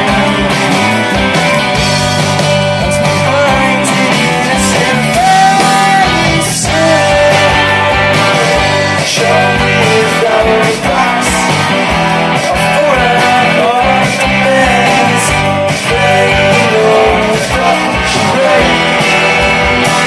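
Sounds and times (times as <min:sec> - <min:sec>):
person singing: 0:00.0 - 0:01.8, 0:02.8 - 0:20.0
drum beat: 0:00.0 - 0:20.0
live rock band playing: 0:00.0 - 0:20.0.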